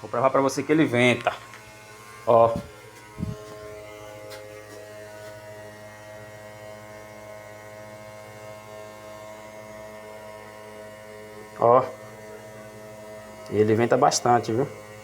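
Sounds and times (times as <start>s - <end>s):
small fan motor humming: 0.0s - 15.0s.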